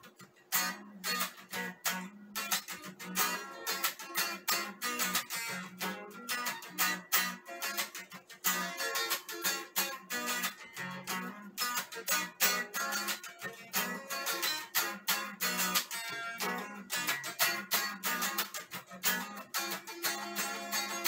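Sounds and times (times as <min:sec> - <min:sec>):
electric guitar strumming chords: 0:00.0 - 0:21.0.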